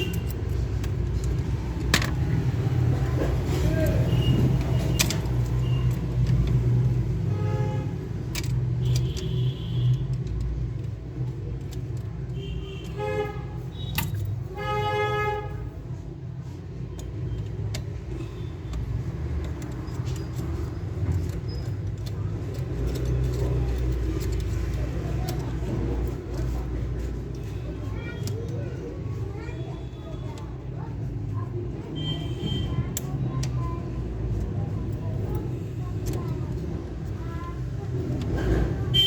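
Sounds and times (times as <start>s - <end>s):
clicks and rattles of parts: 0.0s - 39.0s
low traffic rumble: 0.0s - 39.0s.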